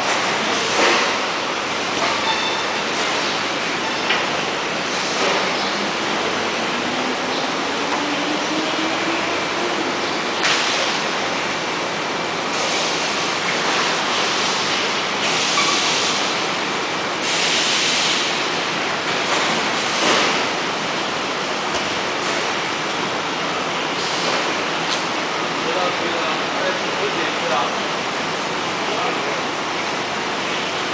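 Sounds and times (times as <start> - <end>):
production line machinery running: 0.0 - 30.9.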